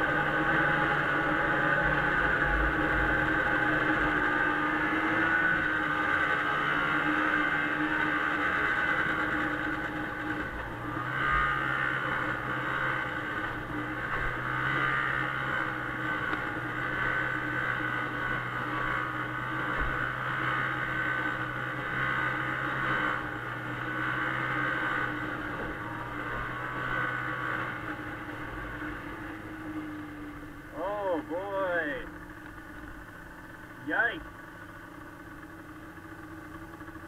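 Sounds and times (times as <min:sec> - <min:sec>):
snowmobile engine running: 0:00.0 - 0:37.0.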